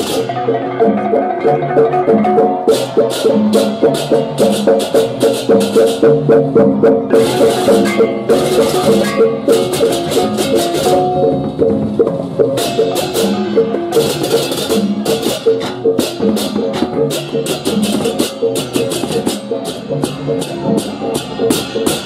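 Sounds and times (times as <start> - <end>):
small gongs beaten in fast patterns: 0.0 - 22.0.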